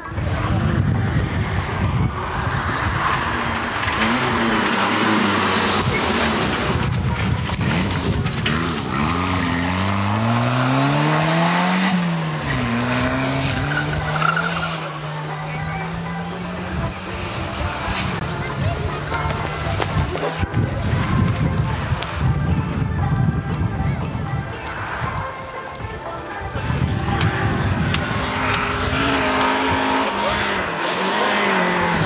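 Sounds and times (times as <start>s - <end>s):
rally car engine revving: 0.0s - 22.4s, 26.6s - 32.0s
tyres on road: 0.0s - 32.0s.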